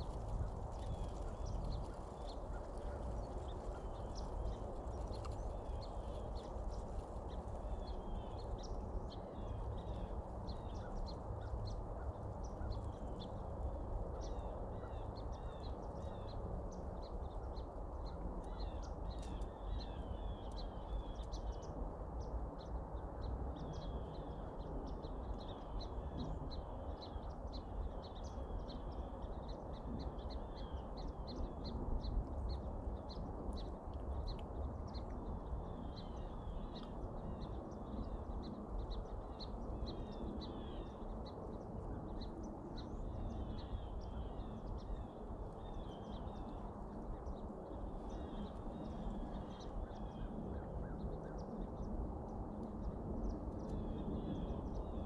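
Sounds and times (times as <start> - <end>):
flock of birds chirping: 0.0 - 55.0.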